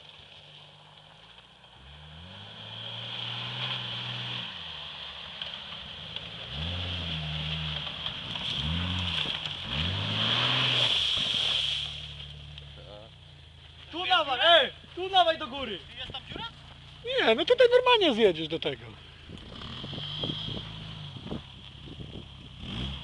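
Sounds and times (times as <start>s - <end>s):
car engine revving: 0.8s - 13.6s, 15.8s - 23.0s.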